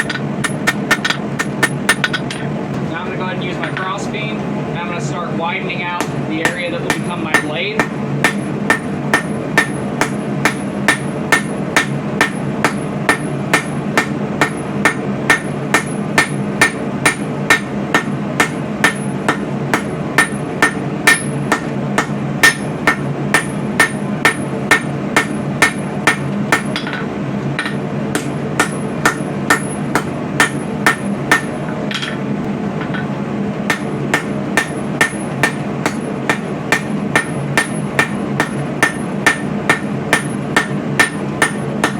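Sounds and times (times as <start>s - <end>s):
hammer striking steel on anvil: 0.0s - 2.5s, 6.0s - 32.2s, 32.8s - 41.9s
steady low hum: 0.0s - 41.9s.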